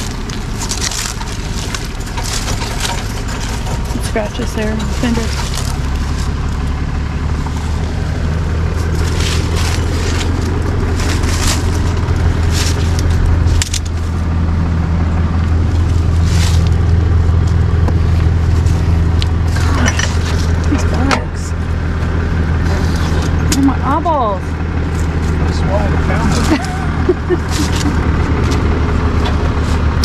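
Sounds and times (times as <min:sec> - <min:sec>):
scraping and rustling: 0:00.0 - 0:14.3, 0:15.4 - 0:23.5, 0:24.8 - 0:30.0
vehicle engine idling: 0:00.0 - 0:30.0.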